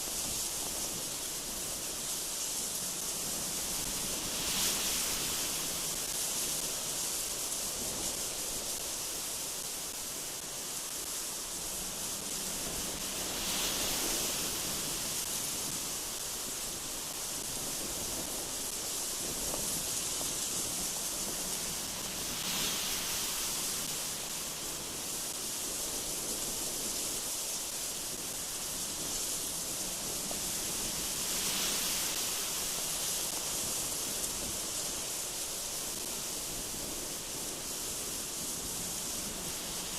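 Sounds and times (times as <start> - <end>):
gusty wind through trees: 0.0 - 39.9.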